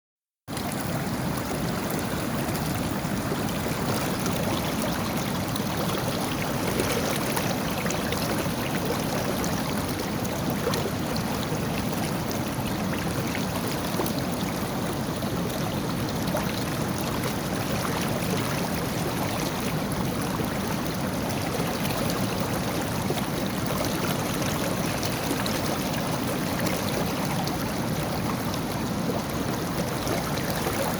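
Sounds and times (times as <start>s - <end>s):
river water rushing and gurgling: 0.5s - 30.9s.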